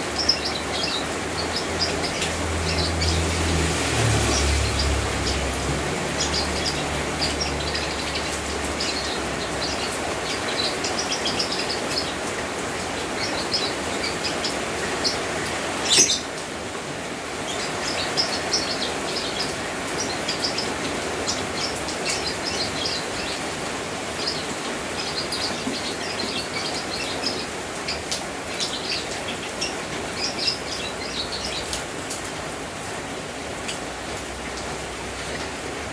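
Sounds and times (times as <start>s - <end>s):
small birds chirping: 0.0s - 16.4s, 17.4s - 32.2s
rain falling: 0.0s - 35.9s.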